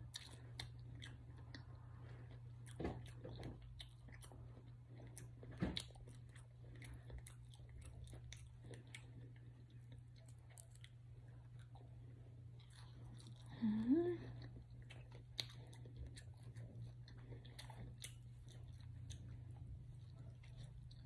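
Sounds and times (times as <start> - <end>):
chewing and biting chicken wing: 0.0 - 13.6, 14.3 - 21.0
steady low hum: 0.0 - 21.0.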